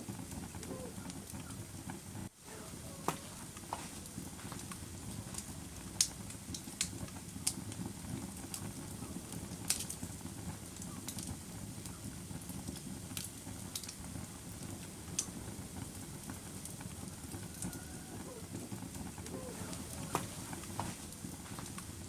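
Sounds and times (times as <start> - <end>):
fire crackling and popping: 0.0 - 22.0
rush of flames: 0.0 - 22.0.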